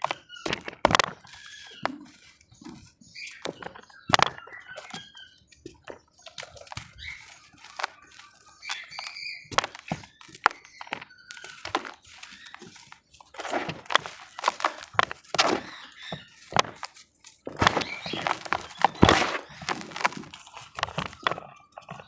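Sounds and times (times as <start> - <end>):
cement crumbling and snapping: 0.0 - 5.1, 6.6 - 22.0.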